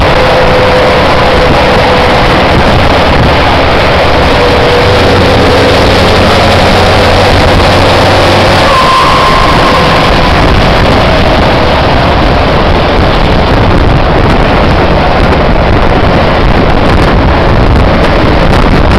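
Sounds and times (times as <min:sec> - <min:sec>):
truck engine running loudly: 0:00.0 - 0:18.9
wind noise on microphone: 0:00.0 - 0:18.9.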